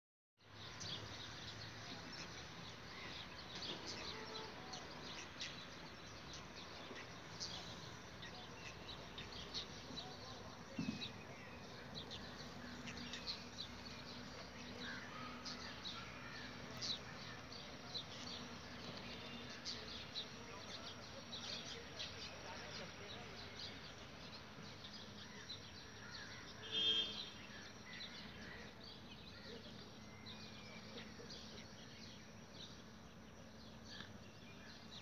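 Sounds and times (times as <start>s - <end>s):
small birds chirping: 0.4s - 35.0s.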